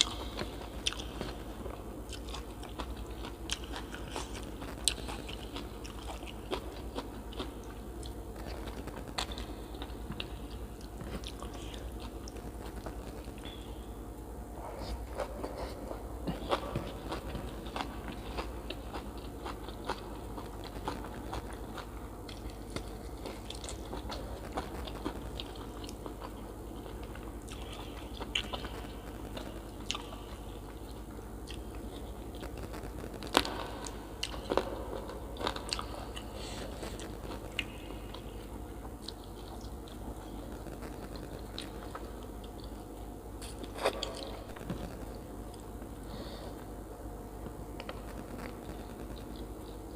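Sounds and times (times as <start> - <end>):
person chewing crunchy food: 0.0 - 13.7, 14.6 - 46.7.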